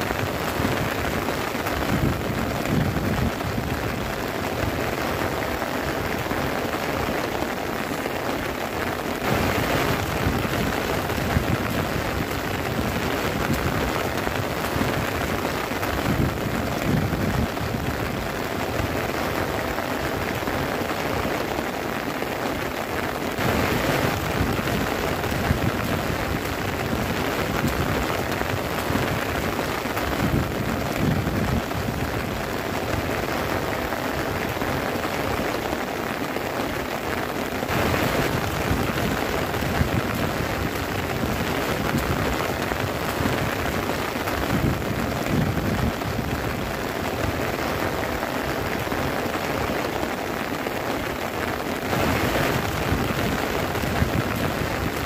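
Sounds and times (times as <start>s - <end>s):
heavy rain on tent fabric: 0.0s - 55.0s.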